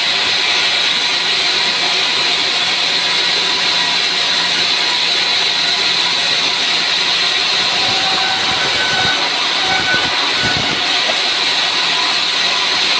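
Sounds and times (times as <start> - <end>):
saw cutting through wood: 0.0 - 12.9.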